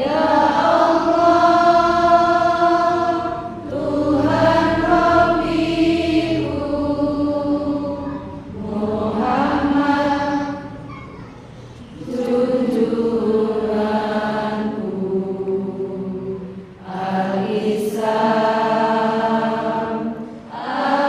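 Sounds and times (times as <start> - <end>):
chanted prayer recitation: 0.0 - 21.0.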